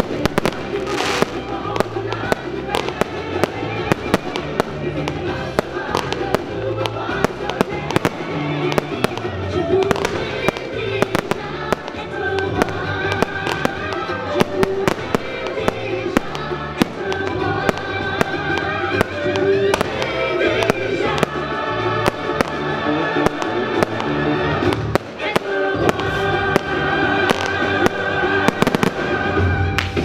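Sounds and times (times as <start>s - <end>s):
fireworks bursting with sharp bangs: 0.0s - 30.0s
music: 0.0s - 30.0s.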